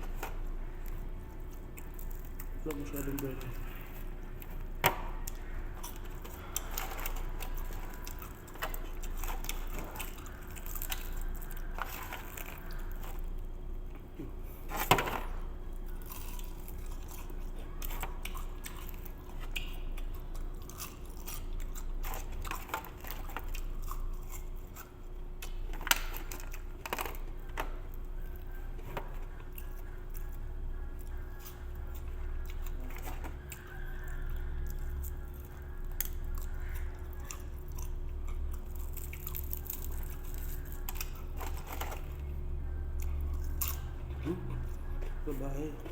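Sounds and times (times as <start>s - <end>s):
faint steady hum: 0.0s - 45.9s
person chewing food: 0.0s - 45.9s.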